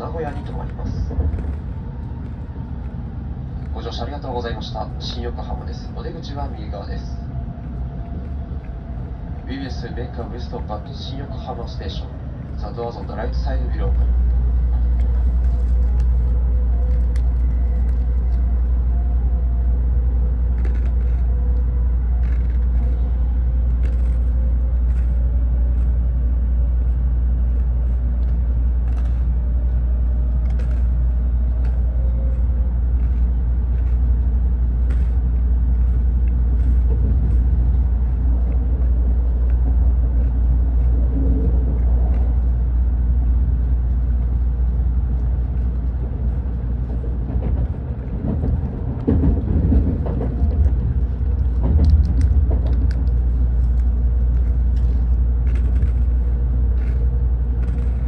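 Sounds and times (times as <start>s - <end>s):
faint whine: 0.0s - 58.0s
train low rumble: 0.0s - 58.0s.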